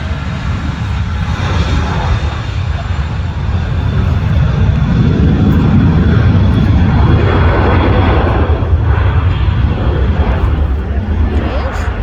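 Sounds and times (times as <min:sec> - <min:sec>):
airplane engine running: 0:00.0 - 0:12.0.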